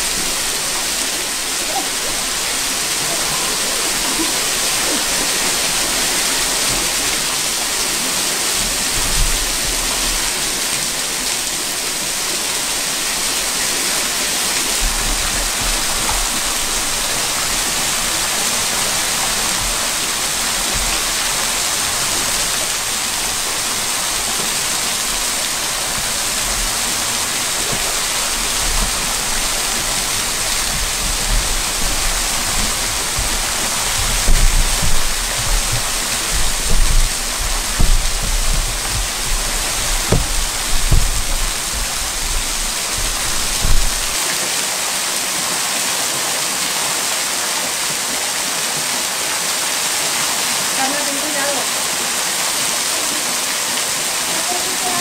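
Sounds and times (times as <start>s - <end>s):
waterfall pouring into a pool: 0.0s - 55.0s.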